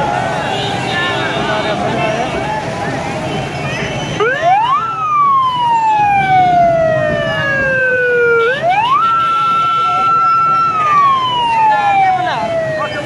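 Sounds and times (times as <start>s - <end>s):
police siren: 0.0s - 13.0s.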